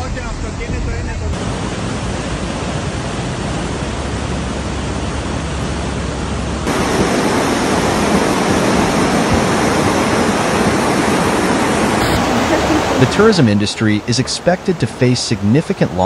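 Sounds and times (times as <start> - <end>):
flood water rushing: 1.4 - 16.0.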